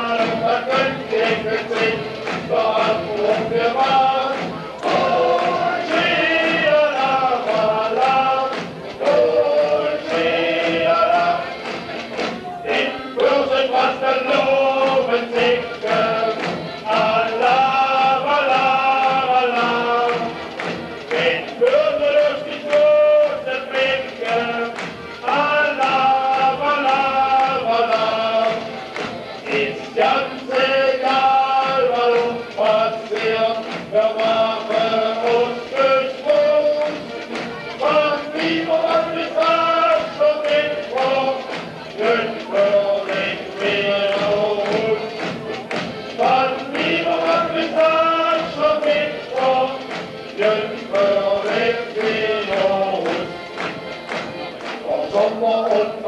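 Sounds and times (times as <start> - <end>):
tapping beat: 0.0 - 56.0
voices singing together: 0.0 - 56.0.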